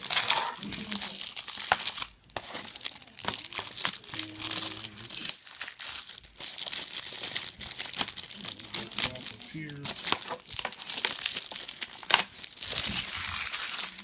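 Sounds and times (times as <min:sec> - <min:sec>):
plastic wrap crinkling and tearing: 0:00.0 - 0:14.0.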